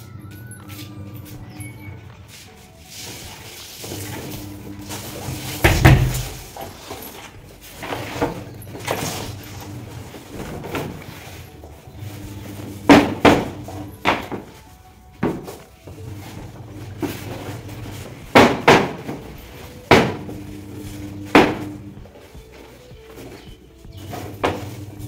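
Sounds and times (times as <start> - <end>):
sheet flapping and thumping: 2.4 - 25.0.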